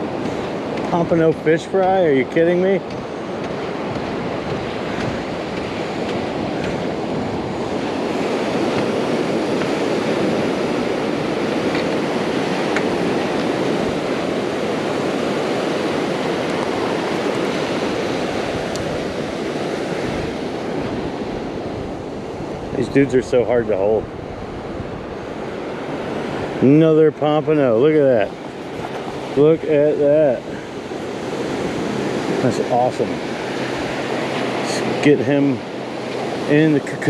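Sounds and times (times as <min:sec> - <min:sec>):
ocean surf washing onto beach: 0:00.0 - 0:37.0
wind on microphone: 0:00.0 - 0:37.0.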